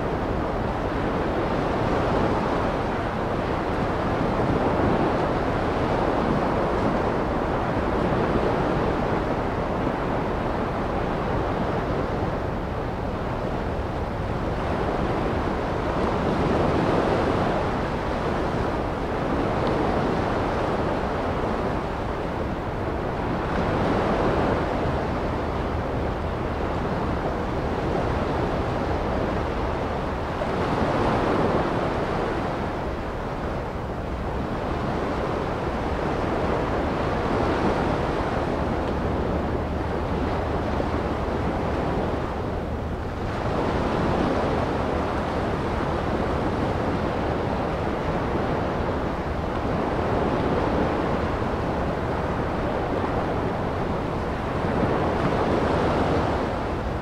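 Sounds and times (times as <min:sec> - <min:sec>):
ocean waves washing on beach: 0:00.0 - 0:57.0.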